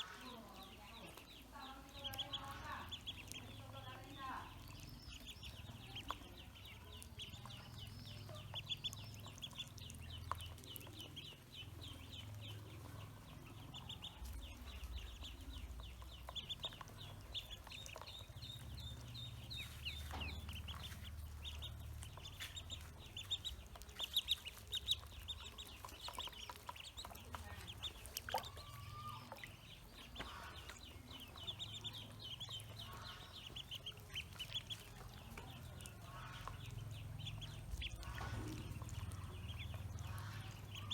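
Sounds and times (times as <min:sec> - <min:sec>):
ducklings peeping: 0:00.0 - 0:40.9.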